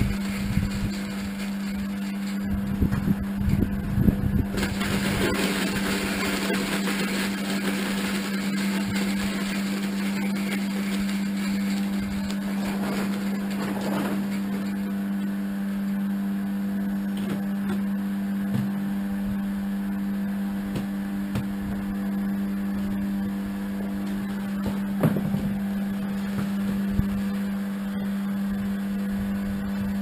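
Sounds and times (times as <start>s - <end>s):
electric motor humming: 0.0s - 30.0s.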